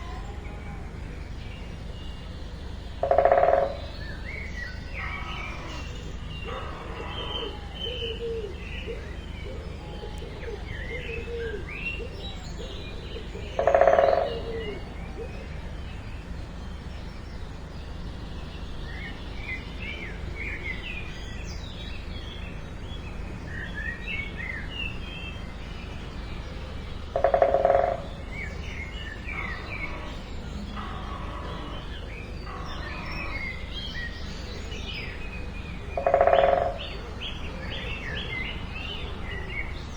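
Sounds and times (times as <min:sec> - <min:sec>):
lower-pitched bird calls: 0:00.0 - 0:15.7, 0:23.4 - 0:39.9
small birds chirping: 0:00.0 - 0:39.9.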